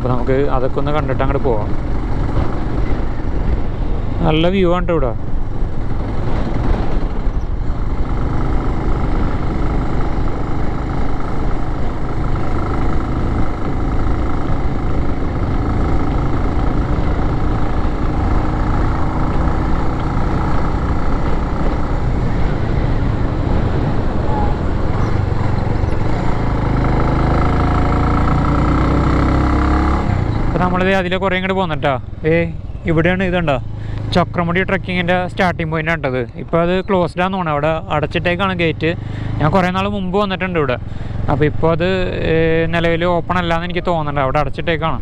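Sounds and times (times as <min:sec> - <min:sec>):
car engine hum: 0:00.0 - 0:45.0
tyre and road noise: 0:00.0 - 0:45.0.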